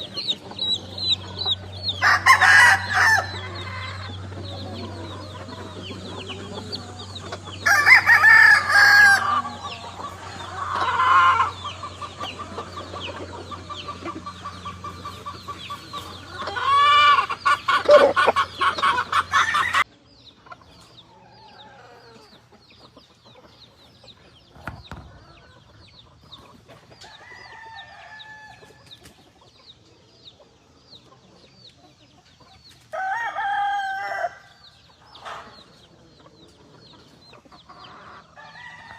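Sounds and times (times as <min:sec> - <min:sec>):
roosters crowing: 0:00.0 - 0:19.9, 0:20.7 - 0:38.9
chicken clucking: 0:00.0 - 0:38.9.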